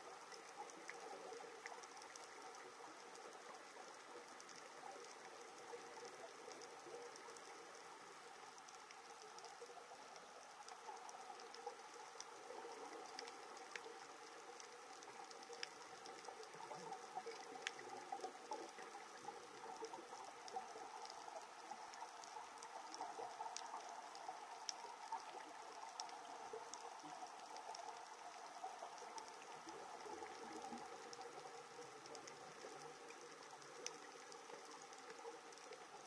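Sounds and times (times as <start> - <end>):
sharp clicks and crackles: 0.2 - 36.0.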